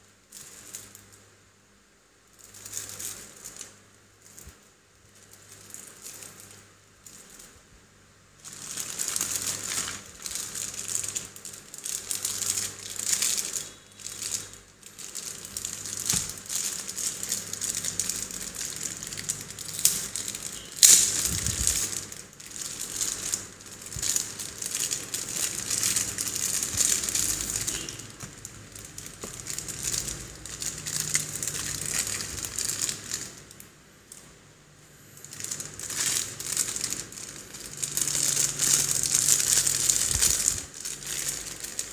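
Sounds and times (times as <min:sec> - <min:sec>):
plastic bags crinkling: 0:00.0 - 0:01.1, 0:02.3 - 0:07.6, 0:08.4 - 0:34.4, 0:35.2 - 0:41.9.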